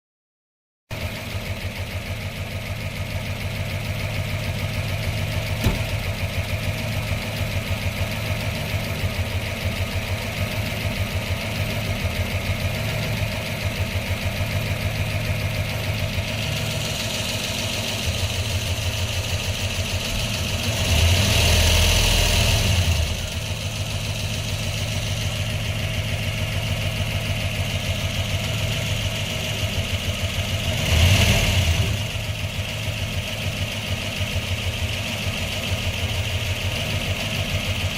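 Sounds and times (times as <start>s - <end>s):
car engine idling: 0.9s - 37.9s.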